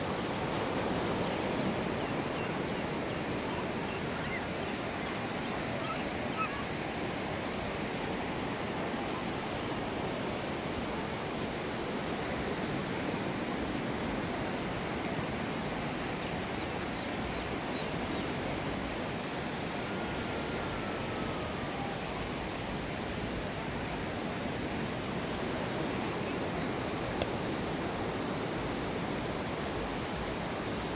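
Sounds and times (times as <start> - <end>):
ocean surf washing on beach: 0.0 - 30.9.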